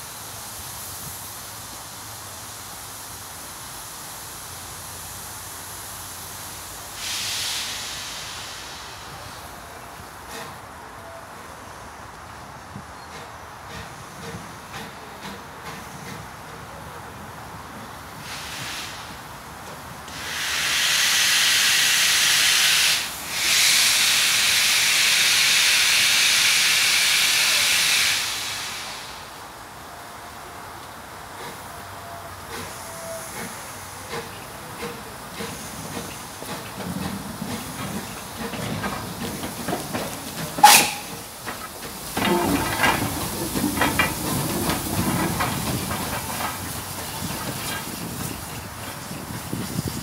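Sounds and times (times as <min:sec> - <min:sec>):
steam venting rush: 0:00.0 - 0:11.0, 0:11.7 - 0:50.0
steady steam hiss: 0:00.0 - 0:50.0.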